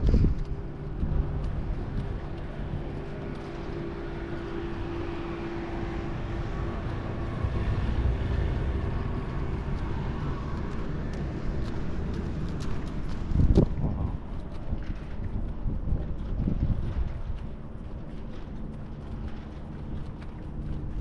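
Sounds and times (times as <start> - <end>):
faint steady hum: 0.0 - 21.0
low rumble of vehicles: 0.0 - 21.0.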